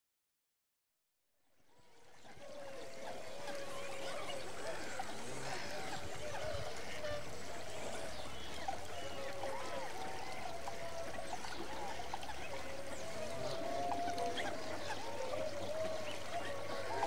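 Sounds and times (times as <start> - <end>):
waterfowl flock calling: 2.3 - 17.0.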